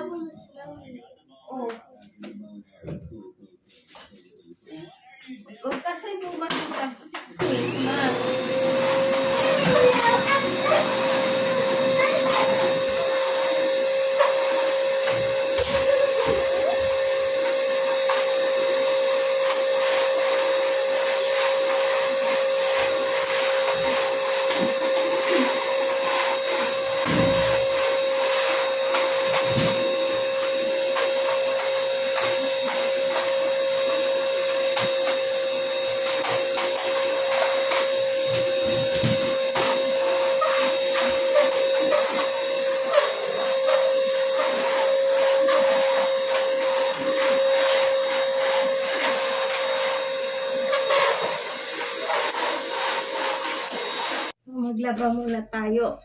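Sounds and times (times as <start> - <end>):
small appliance motor humming: 7.4 - 54.4.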